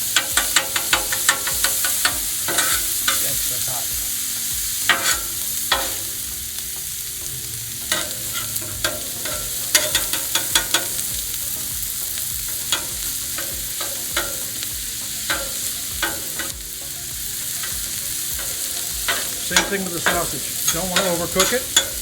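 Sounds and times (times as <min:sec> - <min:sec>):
metal spatula tapping griddle: 0:00.0 - 0:06.2, 0:07.8 - 0:16.7, 0:17.5 - 0:22.0
food sizzling on griddle: 0:00.0 - 0:22.0.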